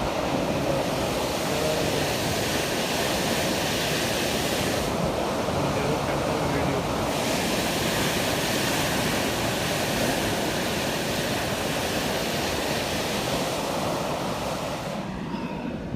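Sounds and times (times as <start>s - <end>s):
sea water rushing: 0.0s - 15.9s
wind: 0.0s - 15.9s.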